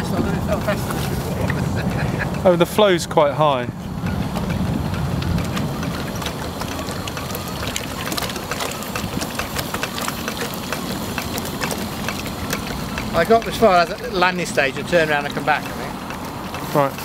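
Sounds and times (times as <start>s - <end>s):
hot-air engine ticking and rumbling: 0.0s - 17.0s.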